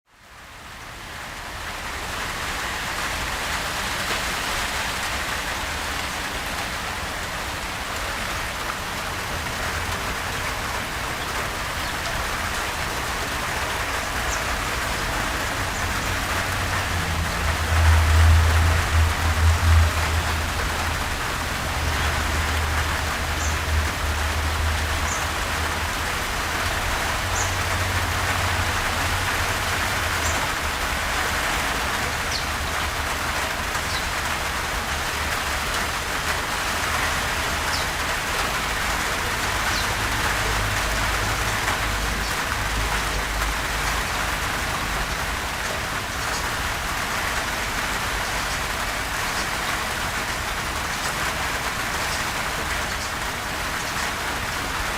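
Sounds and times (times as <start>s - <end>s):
gentle rain falling: 0.1s - 54.9s.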